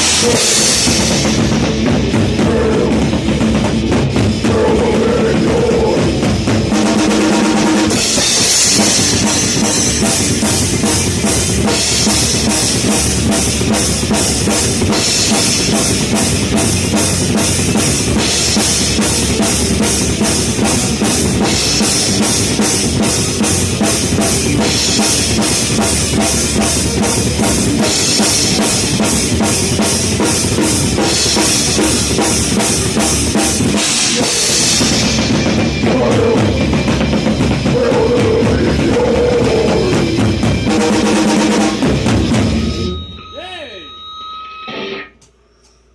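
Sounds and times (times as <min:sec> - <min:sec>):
heavy metal band playing: 0:00.0 - 0:44.0, 0:44.6 - 0:45.2.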